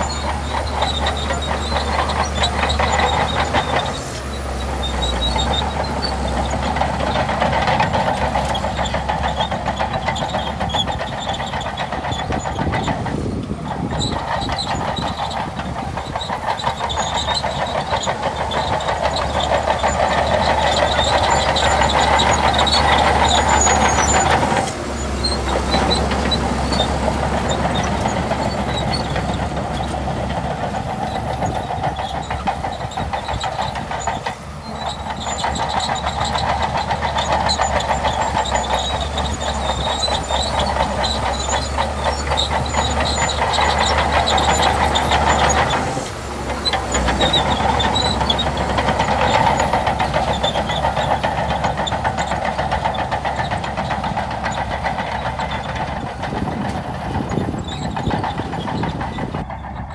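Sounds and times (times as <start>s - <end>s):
diesel engine under load: 0.0s - 59.9s
steel tracks clattering: 0.0s - 59.9s.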